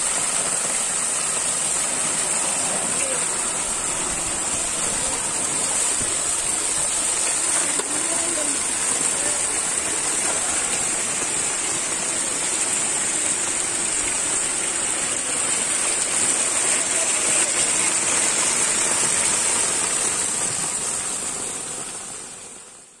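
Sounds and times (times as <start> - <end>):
water pouring and splashing: 0.0 - 22.8
steady high hiss: 0.0 - 23.0.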